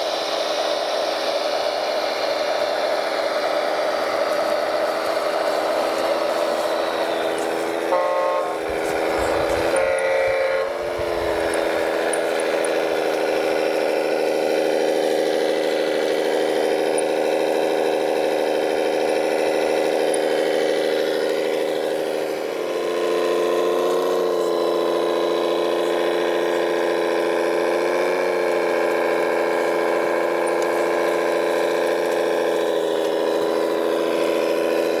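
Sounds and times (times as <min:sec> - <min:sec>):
toy truck engine drone: 0:00.0 - 0:35.0.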